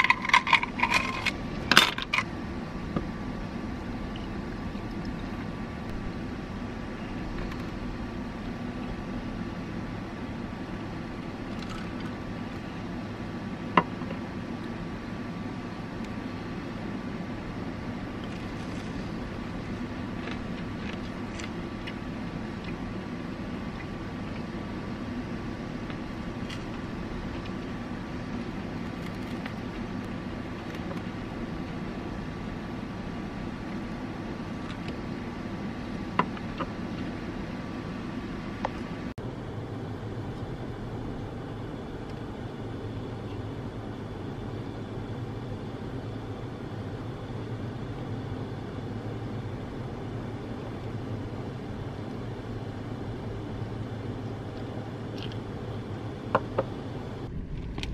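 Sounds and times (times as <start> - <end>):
faint high whine: 0.0 - 57.9
low hum: 0.0 - 57.9.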